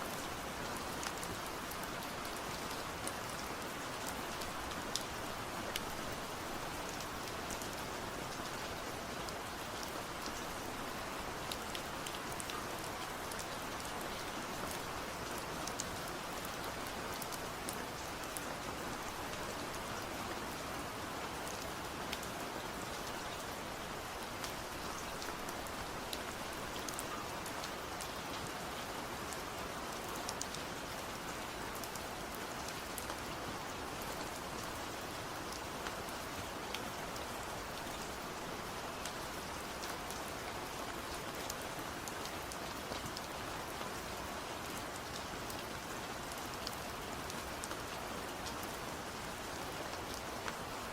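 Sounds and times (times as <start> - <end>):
steady rain hiss: 0.0 - 50.9
raindrops ticking on a surface: 0.1 - 20.4, 21.2 - 50.9.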